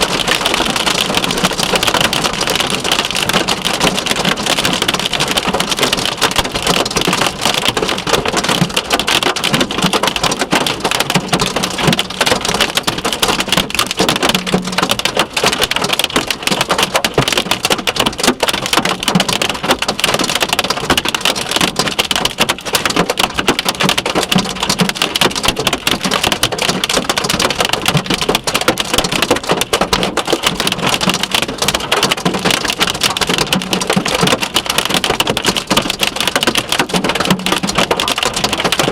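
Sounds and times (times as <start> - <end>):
hail and rain on a car: 0.0 - 38.9.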